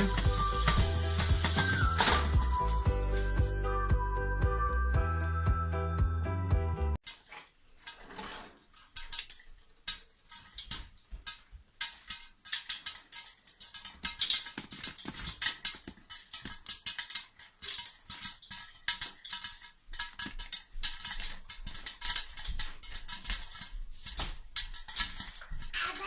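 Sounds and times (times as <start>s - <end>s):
popcorn popping in oil: 0.0s - 3.5s, 7.0s - 26.0s.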